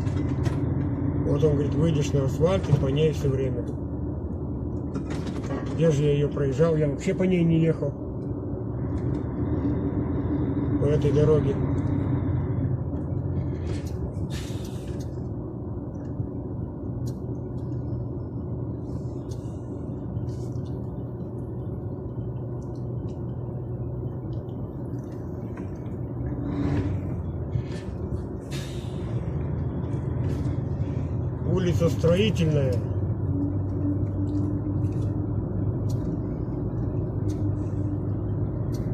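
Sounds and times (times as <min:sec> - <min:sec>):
truck diesel engine rumble: 0:00.0 - 0:38.9.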